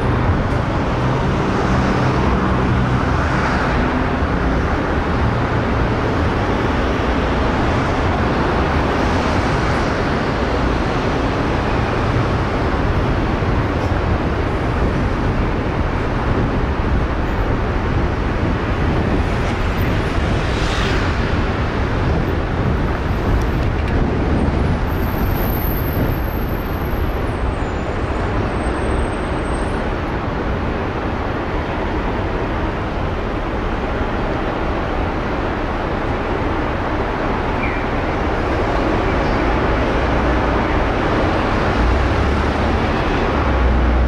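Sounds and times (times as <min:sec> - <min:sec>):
road traffic running past: 0:00.0 - 0:44.0.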